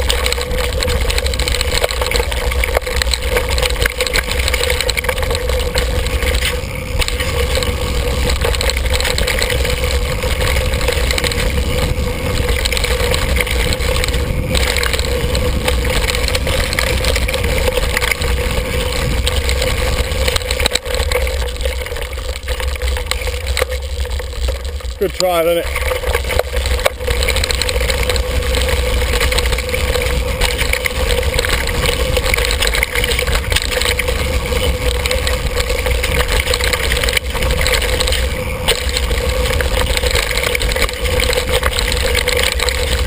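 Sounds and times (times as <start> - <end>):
bike tyres and frame rattling: 0.0 - 43.0
wind buffeting microphone: 0.0 - 43.0.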